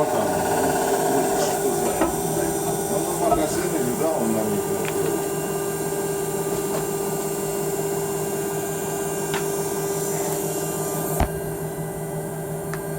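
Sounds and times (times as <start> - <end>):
electric drive hum: 0.0 - 12.9.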